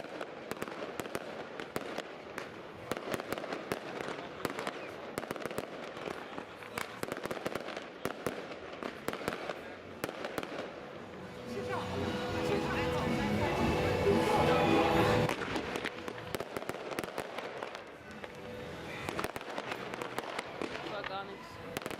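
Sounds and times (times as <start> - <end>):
fireworks bangs: 0.0 - 11.1, 13.8 - 21.9
continuous crackling: 0.0 - 11.7, 15.2 - 21.9.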